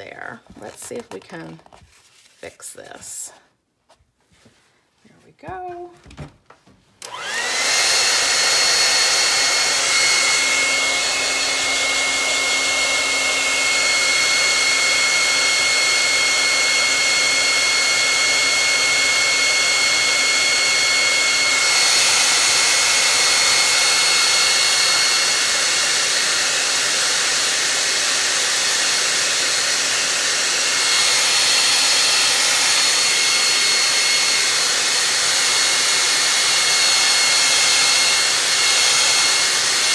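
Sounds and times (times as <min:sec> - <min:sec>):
hair dryer blowing: 0:07.0 - 0:39.9.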